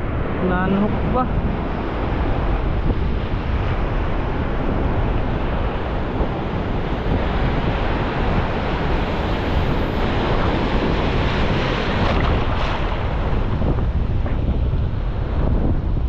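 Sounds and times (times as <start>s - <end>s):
heavy surf: 0.0s - 16.0s
wind buffeting microphone: 0.0s - 16.0s.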